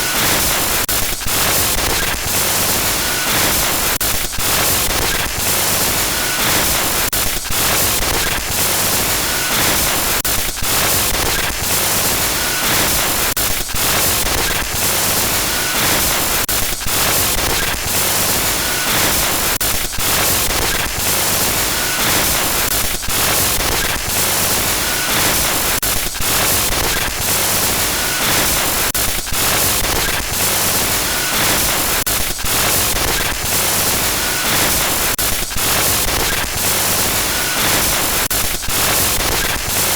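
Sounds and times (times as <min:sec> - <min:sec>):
harsh glitch static: 0:00.0 - 0:39.9.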